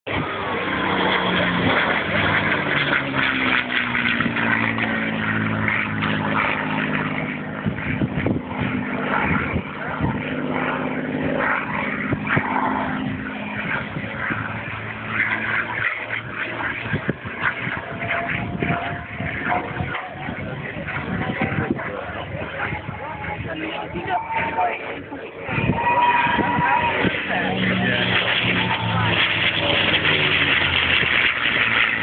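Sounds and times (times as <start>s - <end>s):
propeller plane flying past: 0.1s - 32.0s.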